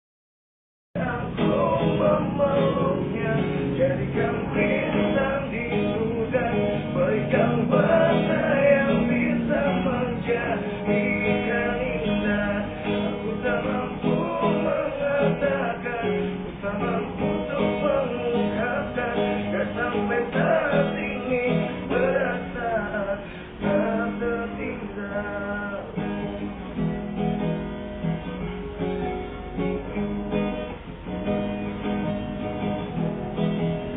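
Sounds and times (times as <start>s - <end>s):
acoustic guitar strumming: 1.0s - 33.9s.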